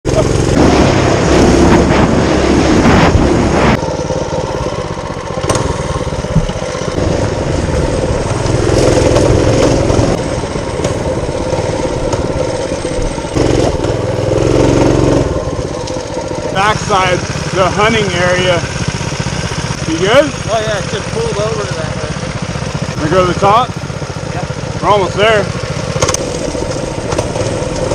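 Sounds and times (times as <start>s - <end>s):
small engine running: 0.1s - 27.9s.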